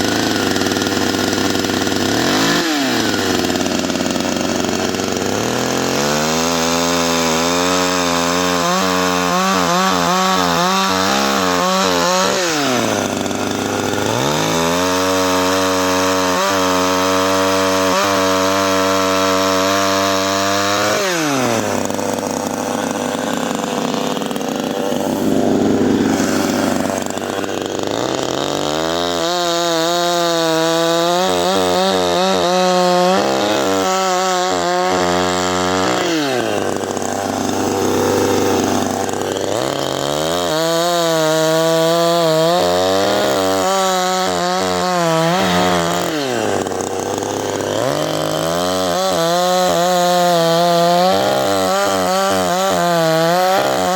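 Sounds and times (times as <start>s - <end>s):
chainsaw running at high revs: 0.0s - 53.9s
chainsaw sawing into wood: 0.0s - 53.9s.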